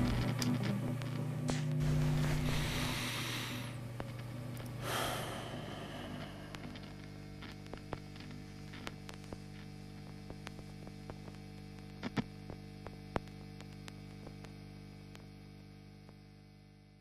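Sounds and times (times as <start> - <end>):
crackling clicks: 0.0 - 2.5, 3.5 - 16.4
low electrical hum: 0.0 - 17.0.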